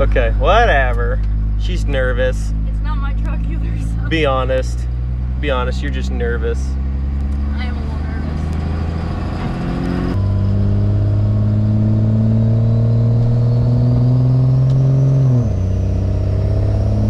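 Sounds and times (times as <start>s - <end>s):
diesel truck engine accelerating: 0.0s - 17.0s.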